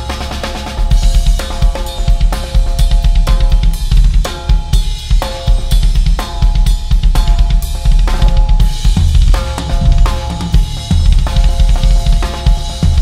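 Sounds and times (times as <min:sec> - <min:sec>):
bass drum strokes: 0:00.0 - 0:13.0.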